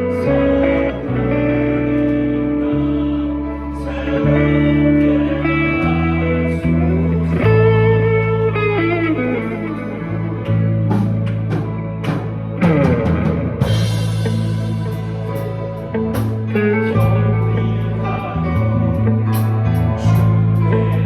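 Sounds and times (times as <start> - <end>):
instrumental music: 0.0 - 21.0.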